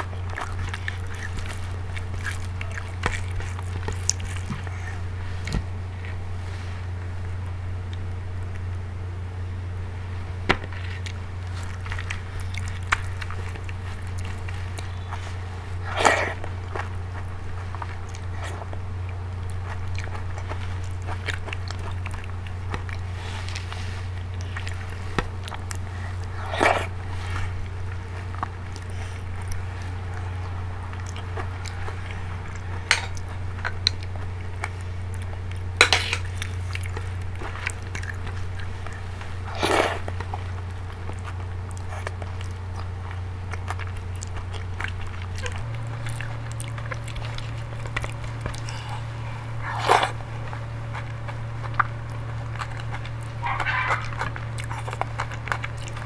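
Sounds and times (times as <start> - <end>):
wet chewing and lip smacks: 0.0 - 6.4, 10.5 - 56.0
steady low hum: 0.0 - 56.0.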